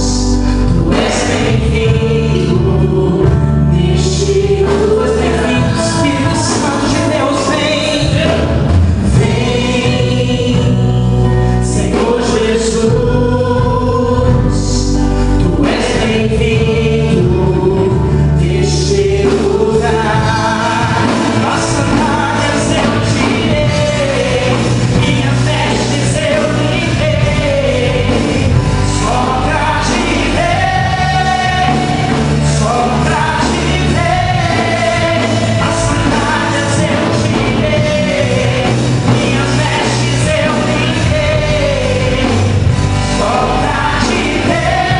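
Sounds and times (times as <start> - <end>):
gospel band with singers: 0.0 - 44.9
steady bass: 0.0 - 44.9.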